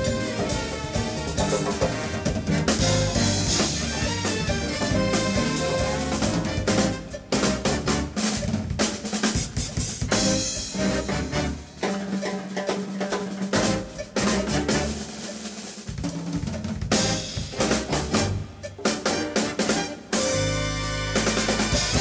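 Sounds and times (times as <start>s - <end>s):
big band jazz: 0.0s - 22.0s
drum kit hits and rolls: 0.0s - 22.0s.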